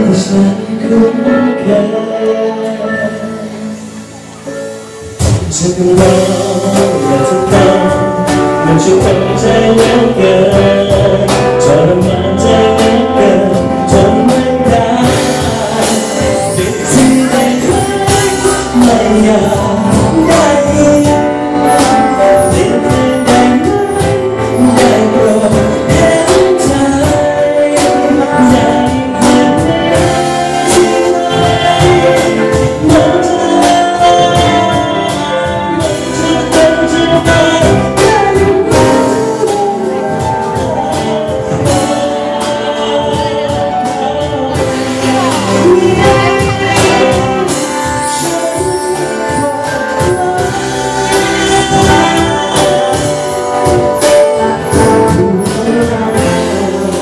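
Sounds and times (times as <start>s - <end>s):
acoustic guitar: 0.0s - 57.0s
brass horn: 0.0s - 57.0s
man singing into a microphone: 0.0s - 57.0s
percussion beat: 4.8s - 57.0s.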